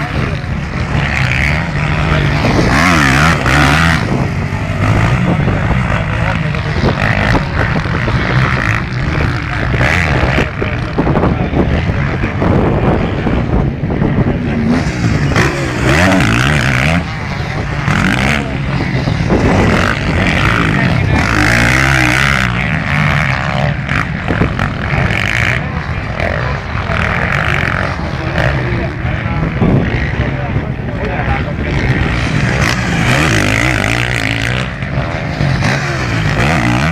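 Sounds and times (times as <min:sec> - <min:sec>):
motocross bikes revving: 0:00.0 - 0:36.9.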